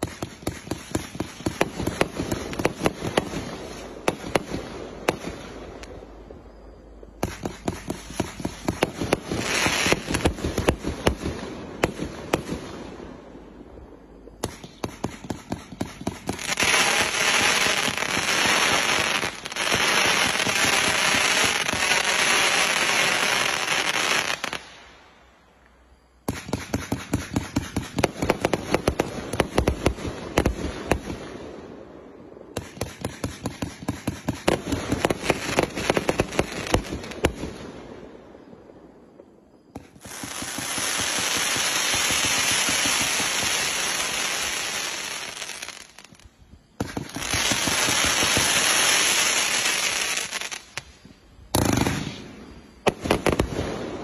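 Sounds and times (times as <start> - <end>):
dense fireworks crackle: 0.0 - 54.0
fireworks launching and bursting: 0.0 - 54.0.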